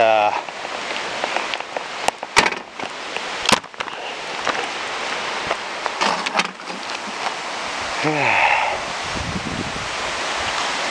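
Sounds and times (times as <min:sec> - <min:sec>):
rustling hiss: 0:00.0 - 0:10.9.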